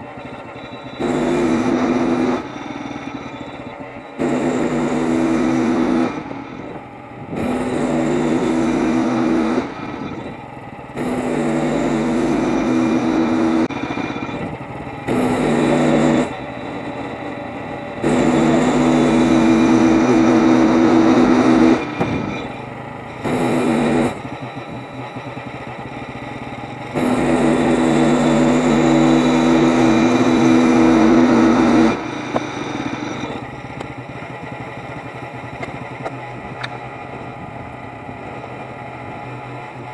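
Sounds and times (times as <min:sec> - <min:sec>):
gas engine revving and idling: 0:00.0 - 0:39.9.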